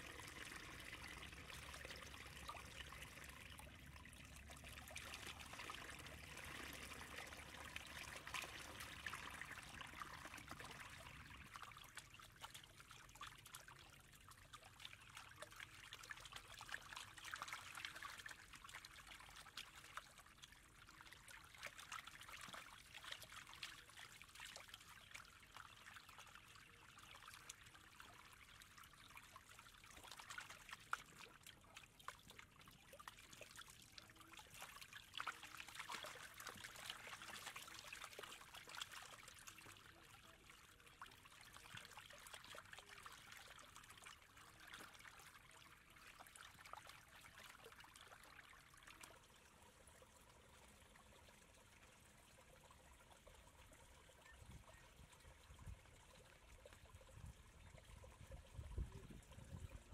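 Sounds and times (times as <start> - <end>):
small splashes: 0.0 - 59.9
water trickling in channel: 0.0 - 59.9.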